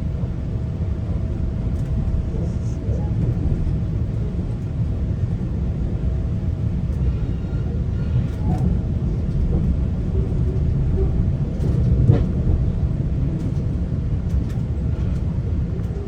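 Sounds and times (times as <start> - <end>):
train rumble inside passenger coach: 0.0 - 16.0.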